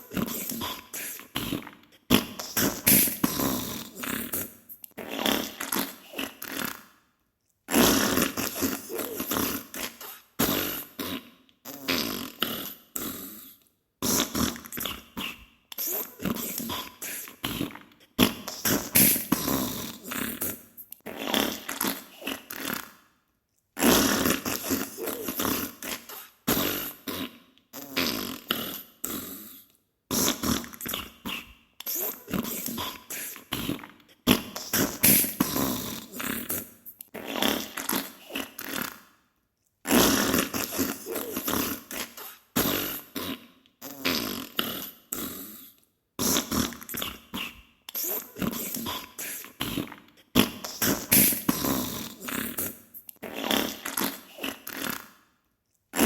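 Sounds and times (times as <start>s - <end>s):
sputtering farts: 0.0s - 6.8s, 7.7s - 13.3s, 14.0s - 23.0s, 23.8s - 29.2s, 30.1s - 32.9s, 33.6s - 39.0s, 39.9s - 45.4s, 46.2s - 49.0s, 49.6s - 55.2s.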